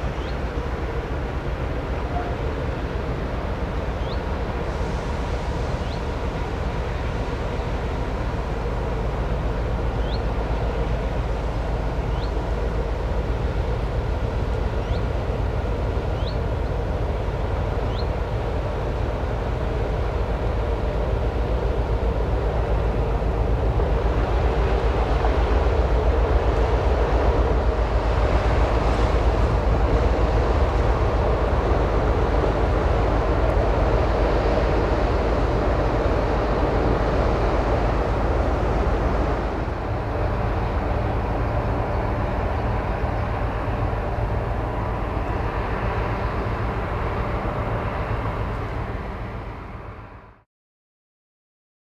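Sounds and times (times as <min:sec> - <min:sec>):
ship engines droning: 0:00.0 - 0:50.4.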